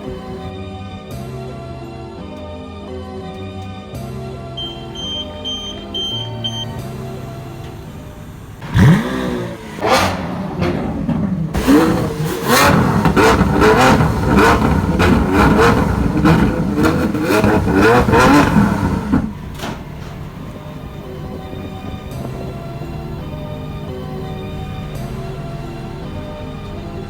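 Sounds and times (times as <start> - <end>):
car engine revving hard: 4.6 - 27.0.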